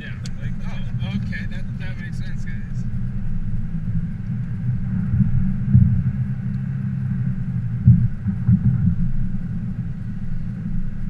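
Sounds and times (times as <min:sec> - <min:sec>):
low rumbling drone in car cabin: 0:00.0 - 0:11.0.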